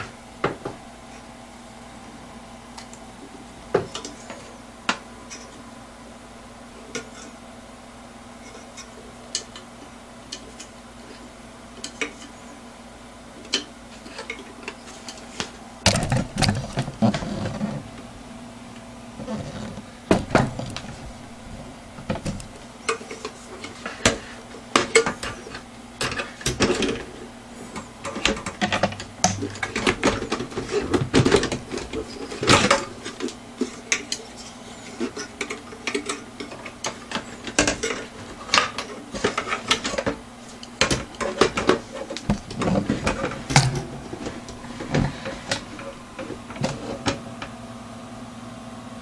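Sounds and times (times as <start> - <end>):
faint hum: 0.0 - 49.0.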